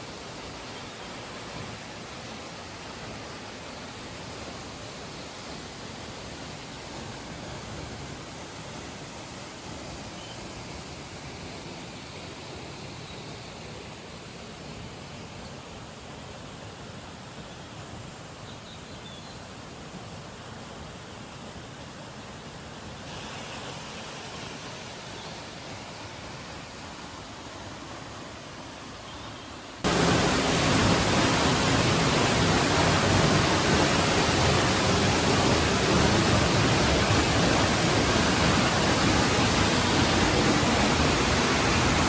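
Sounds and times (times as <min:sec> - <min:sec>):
waterfall rushing: 0:00.0 - 0:17.1, 0:19.6 - 0:42.0.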